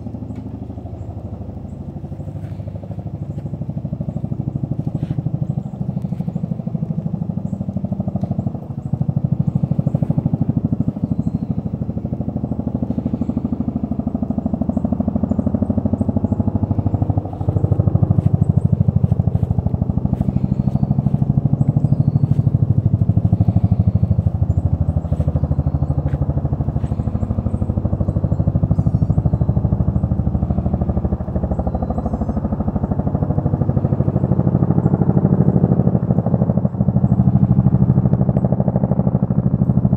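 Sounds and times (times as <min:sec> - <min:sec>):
helicopter rotor beating: 0:00.0 - 0:39.9.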